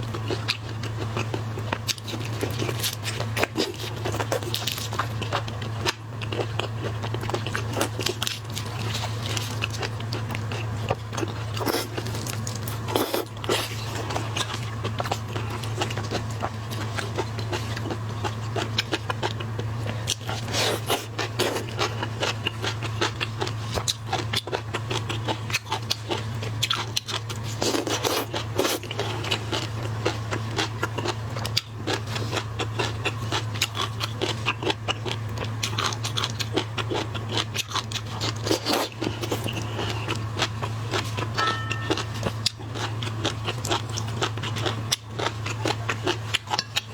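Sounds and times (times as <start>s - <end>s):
biting and chewing: 0.0s - 46.9s
steady low hum: 0.0s - 46.9s.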